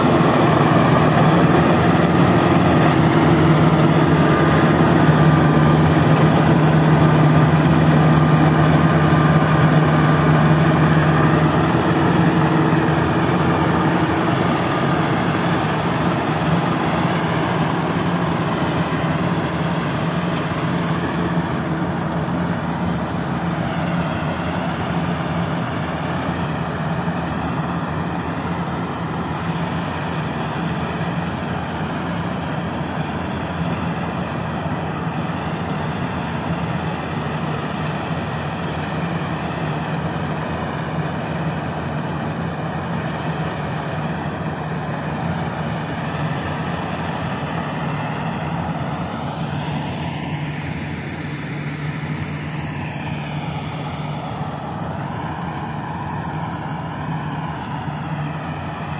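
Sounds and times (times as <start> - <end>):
combine harvester engine running: 0.0 - 58.9.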